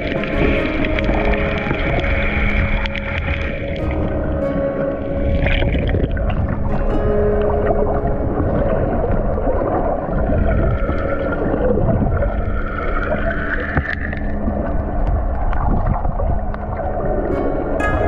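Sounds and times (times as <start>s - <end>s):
soft background music: 0.0s - 18.0s
water sloshing and gurgling: 0.0s - 18.0s.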